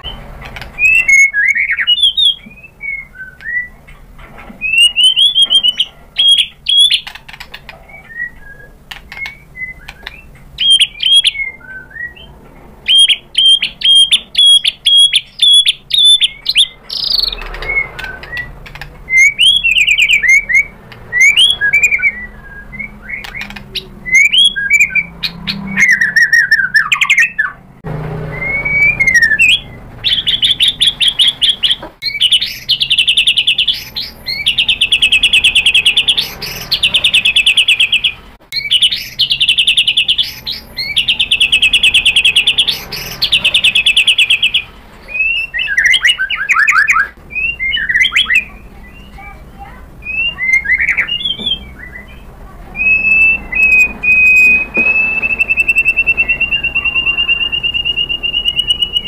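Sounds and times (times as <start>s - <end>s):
bird singing whistled phrases and trills: 0.0s - 3.8s, 4.6s - 27.6s, 28.3s - 59.0s.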